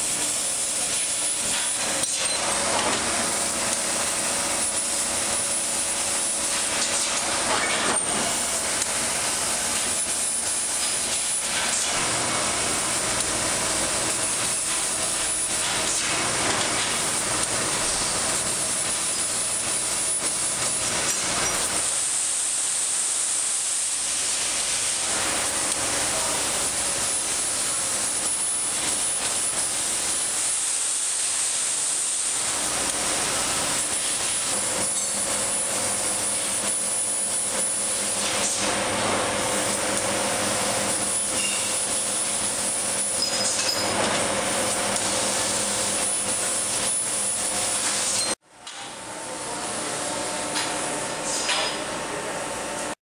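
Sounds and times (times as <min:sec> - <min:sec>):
laser cutter hissing: 0:00.0 - 0:48.4.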